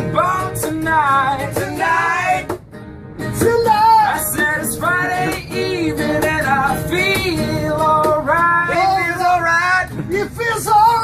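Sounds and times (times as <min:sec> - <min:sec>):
backing music: 0:00.0 - 0:10.8.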